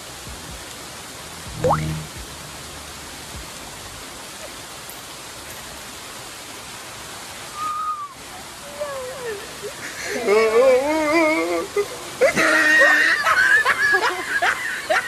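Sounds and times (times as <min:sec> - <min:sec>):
waterfall rushing into pond: 0:00.0 - 0:15.0.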